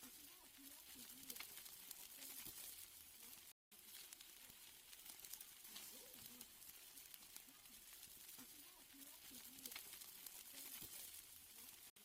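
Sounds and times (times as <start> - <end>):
steaks sizzling on a grill: 0.0 - 12.0.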